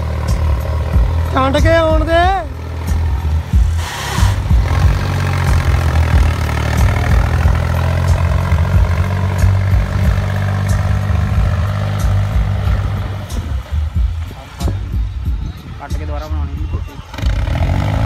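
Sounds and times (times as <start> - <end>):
tractor diesel engine droning: 0.0 - 18.0.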